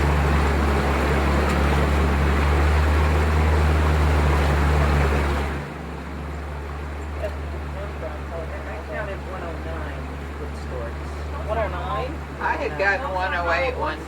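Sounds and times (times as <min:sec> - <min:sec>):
boat motor running: 0:00.0 - 0:14.0
water rushing along hull: 0:00.0 - 0:14.0.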